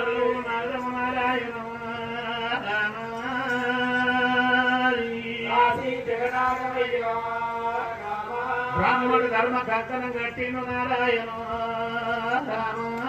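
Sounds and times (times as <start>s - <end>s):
man singing chant-like folk song: 0.0s - 13.0s.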